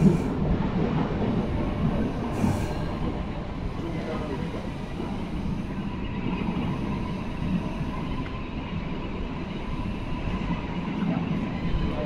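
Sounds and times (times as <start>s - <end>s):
faint whine: 0.0s - 12.0s
train rumbling: 0.0s - 12.0s.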